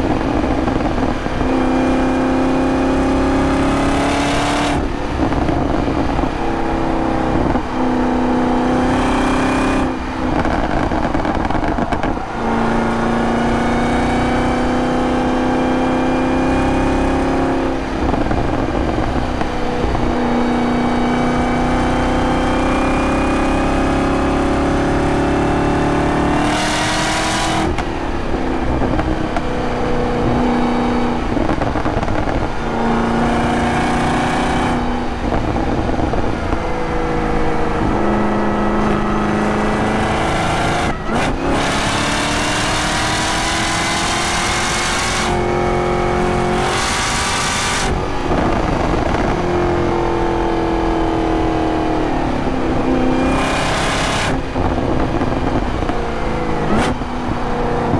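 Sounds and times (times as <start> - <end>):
car engine revving hard: 0.0 - 57.9.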